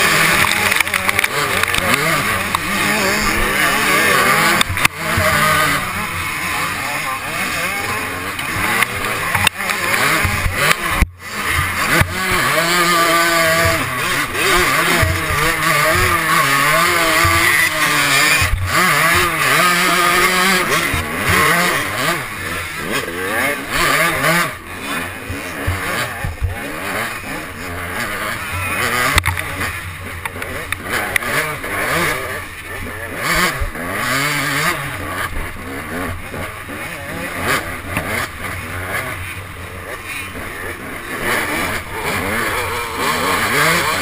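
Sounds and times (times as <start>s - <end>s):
dirt bike engine revving: 0.0s - 44.0s
other motorbikes running nearby: 0.0s - 44.0s.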